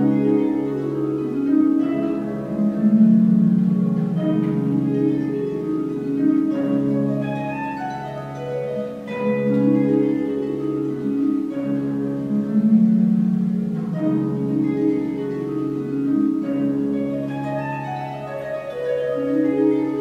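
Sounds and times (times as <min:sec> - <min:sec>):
harp plucked chords: 0:00.0 - 0:20.0.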